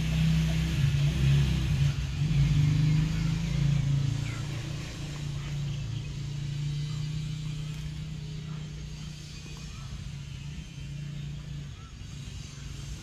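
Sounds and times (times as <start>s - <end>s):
low motor-like rumble: 0.0s - 13.0s.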